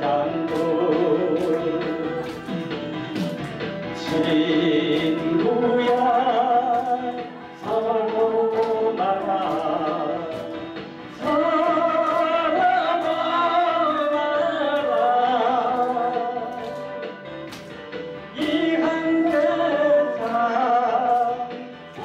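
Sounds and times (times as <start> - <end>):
man singing into a microphone: 0.0 - 2.2, 4.0 - 16.8, 18.3 - 22.0
karaoke backing track: 0.0 - 22.0.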